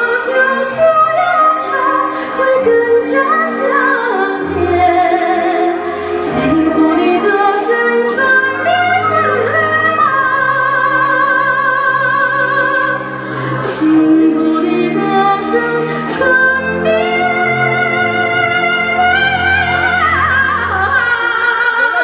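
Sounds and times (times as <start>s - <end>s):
instrumental backing music: 0.0s - 22.0s
woman singing with vibrato: 0.0s - 22.0s.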